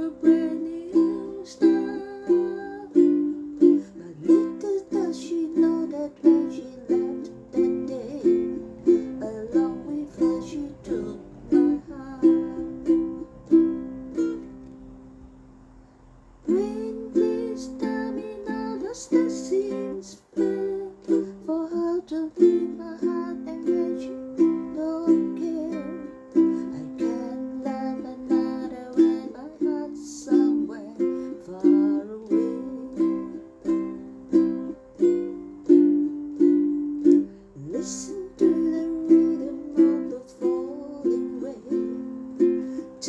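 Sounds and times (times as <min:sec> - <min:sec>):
ukulele strumming: 0:00.0 - 0:15.4, 0:16.4 - 0:43.0.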